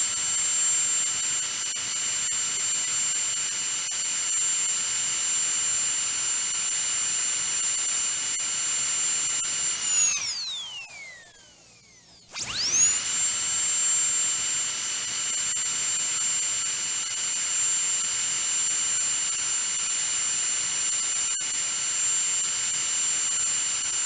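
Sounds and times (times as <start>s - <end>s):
dentist's drill whining: 0.0s - 24.0s.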